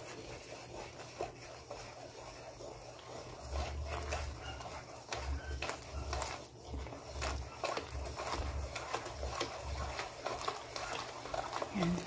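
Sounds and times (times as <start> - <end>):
whisk knocking against bowl: 0.0 - 12.0
whisk stirring: 0.0 - 12.0.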